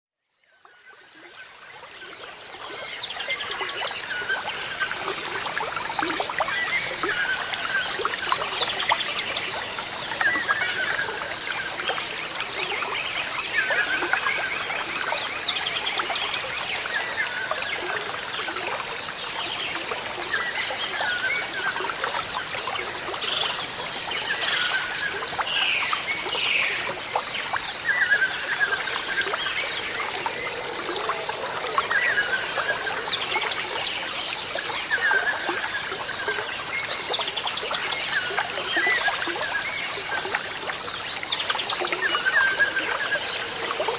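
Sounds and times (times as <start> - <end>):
stream trickling: 0.2 - 43.9.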